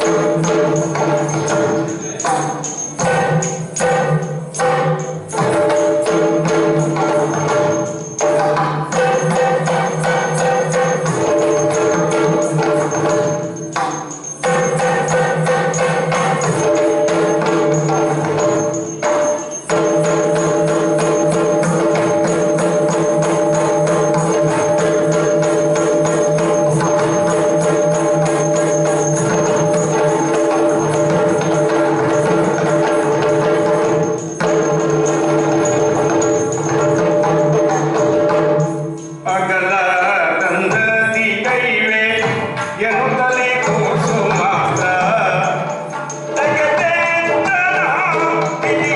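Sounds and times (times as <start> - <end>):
fast drumming: 0.0 - 48.9
small hand cymbals: 0.0 - 48.9.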